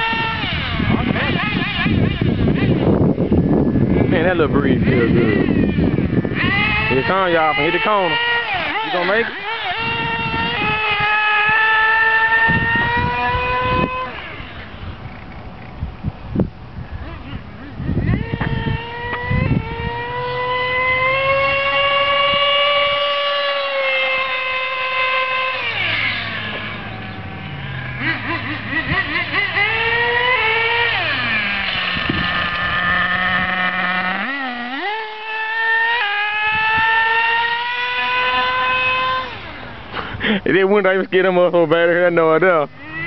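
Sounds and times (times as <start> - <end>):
toy car motor whining: 0.0 - 15.8, 17.0 - 40.4, 42.4 - 43.0.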